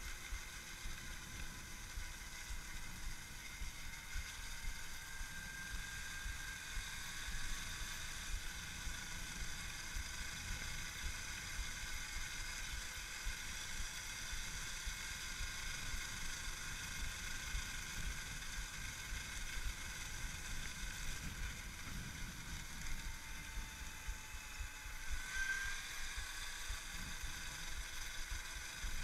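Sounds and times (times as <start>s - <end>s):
electric motor whine: 0.0s - 29.0s.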